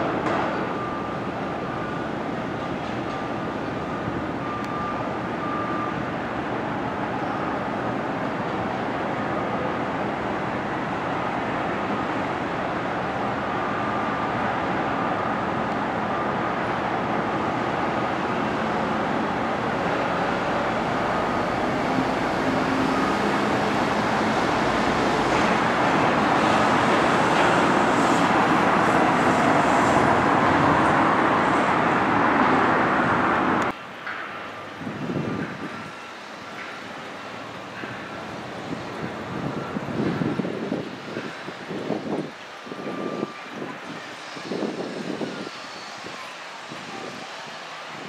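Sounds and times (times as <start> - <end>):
steady traffic noise: 0.0 - 48.0.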